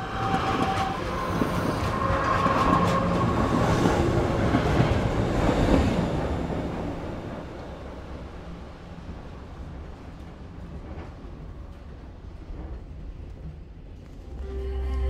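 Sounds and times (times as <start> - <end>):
train wheels rumbling on rail: 0.0 - 14.5.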